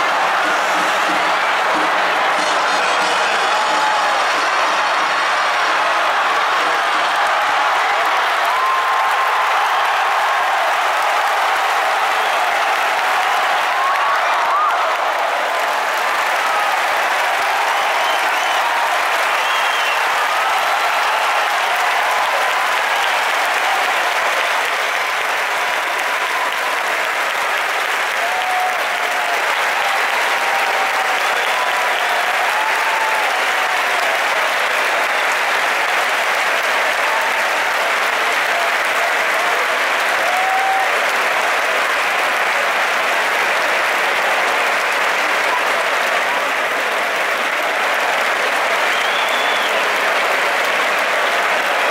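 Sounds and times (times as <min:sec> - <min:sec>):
crowd applauding: 0:00.0 - 0:51.9.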